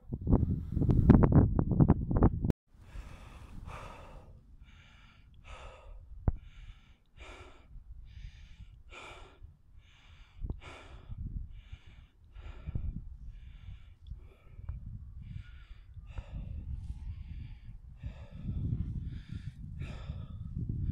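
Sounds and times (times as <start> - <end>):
person breathing hard: 2.8 - 20.9.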